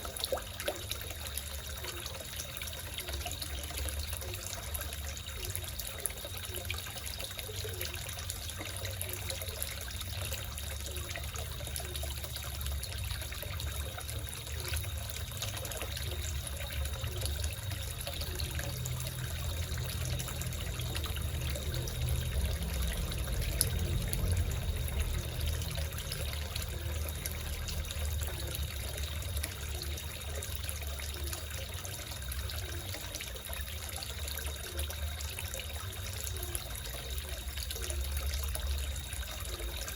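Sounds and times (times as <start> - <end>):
water trickling into pond: 0.0 - 39.9
frogs croaking: 0.8 - 39.9.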